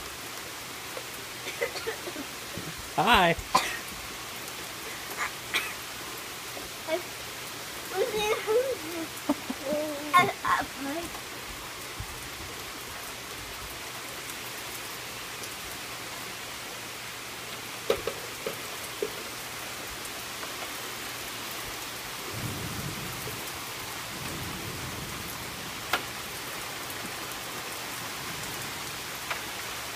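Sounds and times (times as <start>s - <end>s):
rain on wooden deck: 0.0s - 29.9s.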